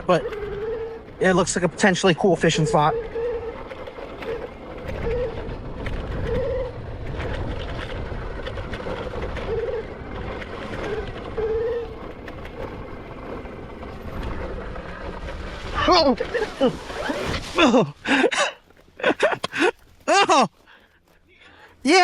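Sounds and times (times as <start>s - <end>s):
rumble of wind and tyres: 0.0s - 22.0s.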